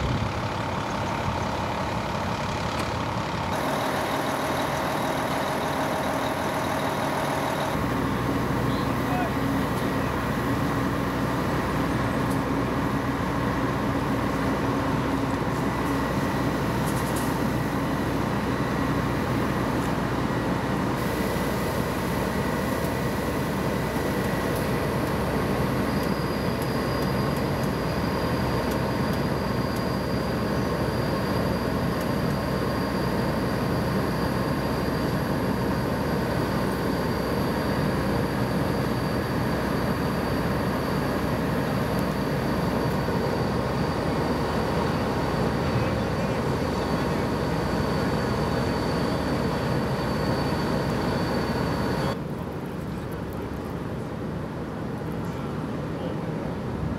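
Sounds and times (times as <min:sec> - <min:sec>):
vehicle engines idling: 0:00.0 - 0:56.7.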